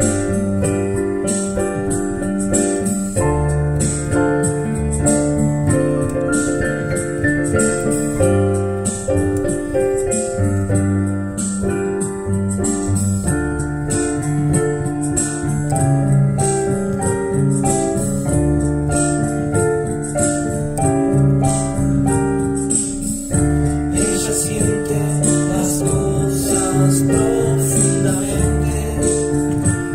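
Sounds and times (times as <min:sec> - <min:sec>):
electric piano chords: 0:00.0 - 0:29.9
moving bass line: 0:00.0 - 0:29.9
ticking beat: 0:00.0 - 0:29.9.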